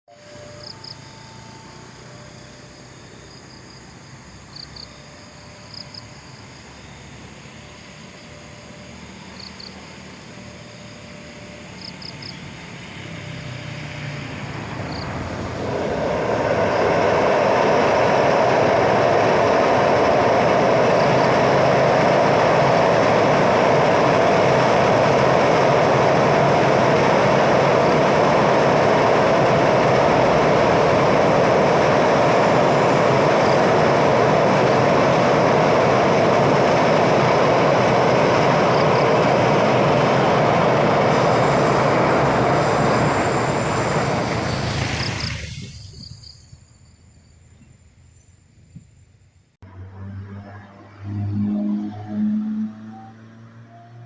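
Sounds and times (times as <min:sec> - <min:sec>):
train rumbling over bridge: 0:00.1 - 0:54.0.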